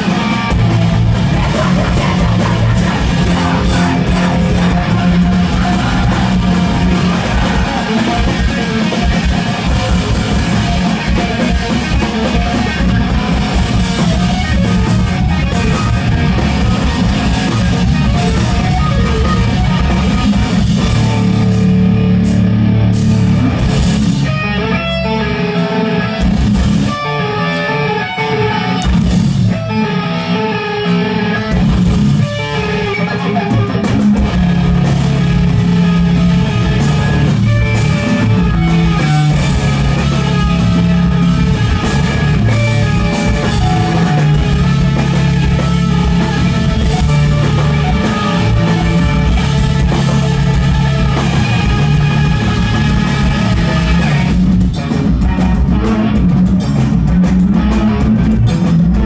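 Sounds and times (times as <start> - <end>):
bass and drums: 0.0 - 59.0
distorted electric guitar: 0.0 - 59.0.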